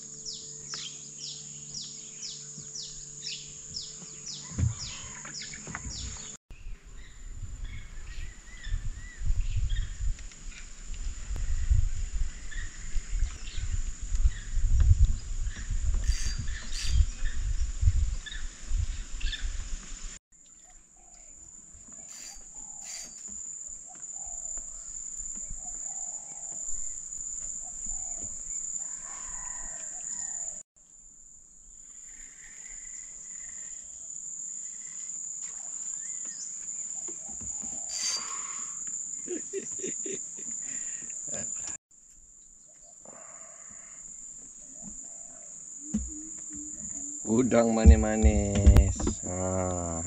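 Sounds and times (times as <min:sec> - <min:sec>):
insects buzzing drone: 0:00.0 - 0:50.0.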